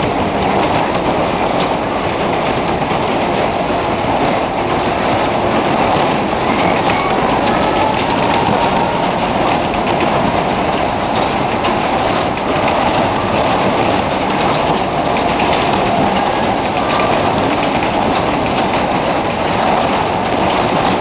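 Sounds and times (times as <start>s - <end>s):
fairground ride rumbling and clattering: 0.0s - 21.0s.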